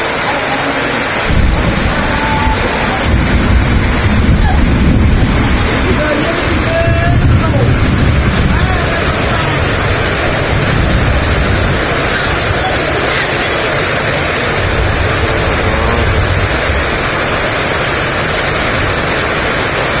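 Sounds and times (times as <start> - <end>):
heavy rain pouring: 0.0 - 20.0
wind gusts rumbling: 1.0 - 20.0.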